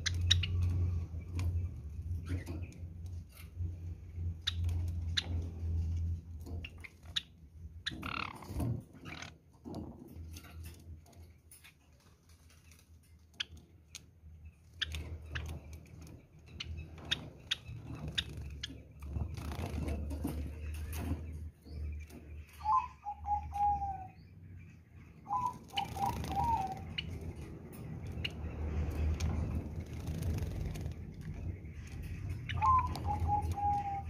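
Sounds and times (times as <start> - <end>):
birds clicking and chipping: 0.0 - 34.0.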